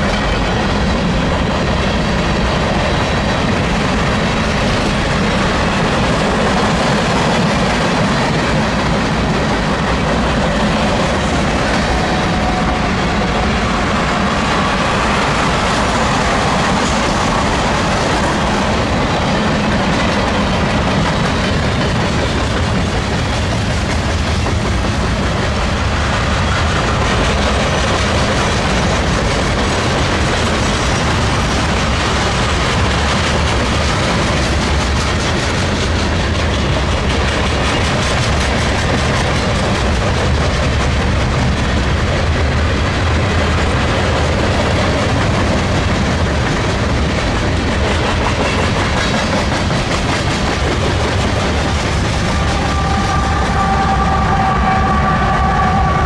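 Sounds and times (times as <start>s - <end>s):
train rumbling past: 0.0s - 56.0s
train wheels clattering on rails: 0.0s - 56.0s.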